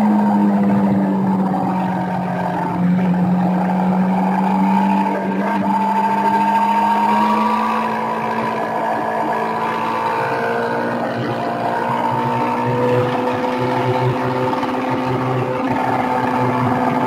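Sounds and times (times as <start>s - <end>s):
motorcycle engine at speed: 0.0s - 17.0s.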